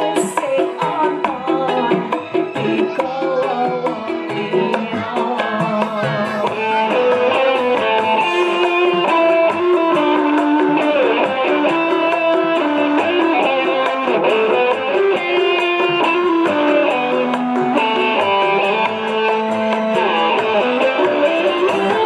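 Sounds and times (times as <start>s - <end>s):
instrumental dance music: 0.0s - 22.0s.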